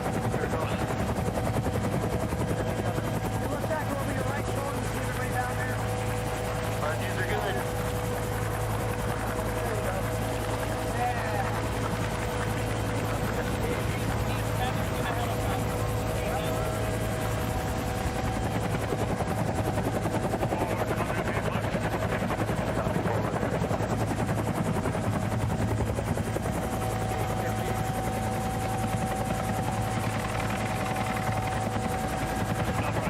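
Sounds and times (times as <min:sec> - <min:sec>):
helicopter rotor beat: 0:00.0 - 0:33.0.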